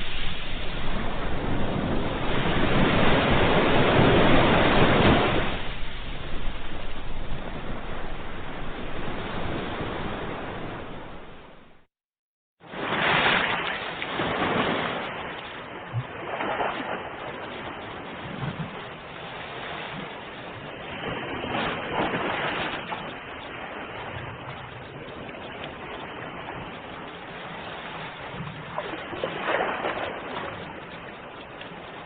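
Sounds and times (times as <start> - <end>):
ocean waves breaking: 0.0 - 11.9, 12.6 - 32.0.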